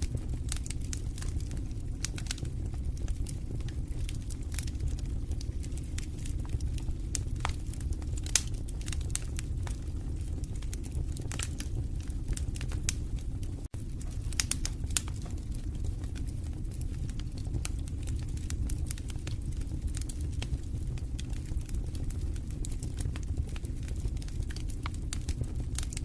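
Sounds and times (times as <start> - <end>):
fire pops and snaps: 0.0 - 26.0
low rumble of flames: 0.0 - 26.0.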